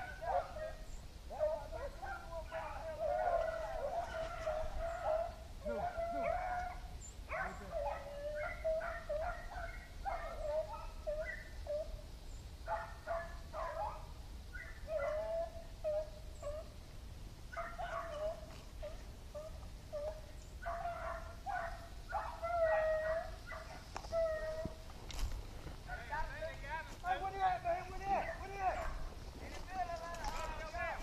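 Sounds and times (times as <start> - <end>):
dogs baying and barking: 0.0 - 12.0, 12.7 - 16.8, 17.5 - 25.3, 27.3 - 31.0.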